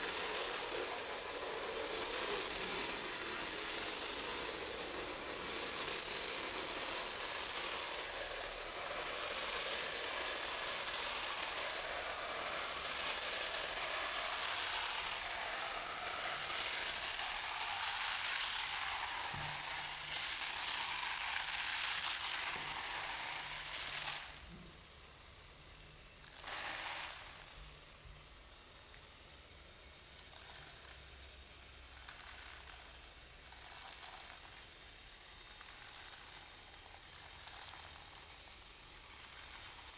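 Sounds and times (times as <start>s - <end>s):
rice grains pouring: 0.0s - 39.9s.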